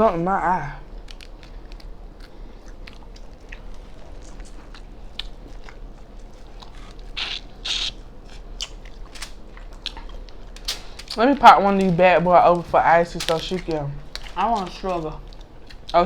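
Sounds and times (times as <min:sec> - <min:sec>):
chewing and biting: 0:00.9 - 0:16.0
small clicks and crunches: 0:00.9 - 0:16.0.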